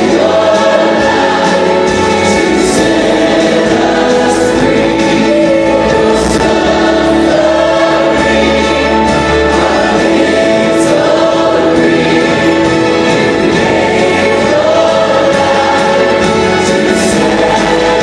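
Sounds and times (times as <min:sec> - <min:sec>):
choir singing worship music: 0:00.0 - 0:18.0.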